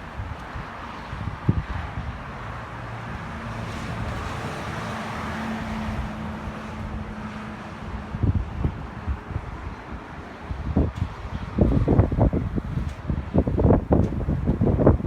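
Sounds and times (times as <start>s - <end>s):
wind buffeting microphone: 0.0s - 4.9s, 5.6s - 15.0s
engine rumble: 1.2s - 15.0s.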